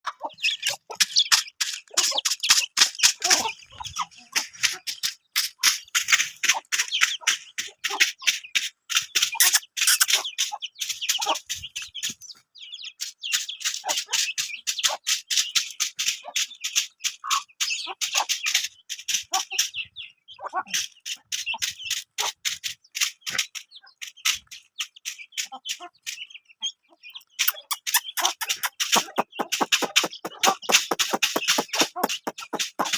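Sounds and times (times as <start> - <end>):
chickens pecking at food: 0.1 - 32.9.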